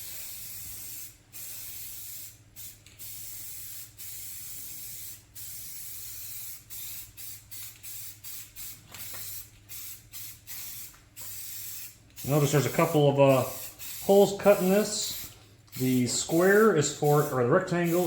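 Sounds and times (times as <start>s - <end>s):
spray paint hissing: 0.0s - 18.0s.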